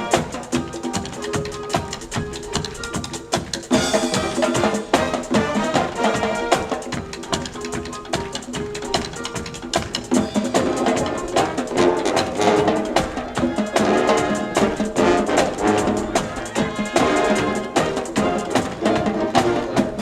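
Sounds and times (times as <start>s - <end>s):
band music with drums: 0.0s - 20.0s.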